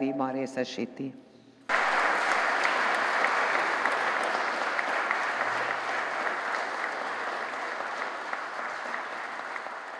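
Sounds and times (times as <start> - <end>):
audience applauding: 1.7 - 9.9.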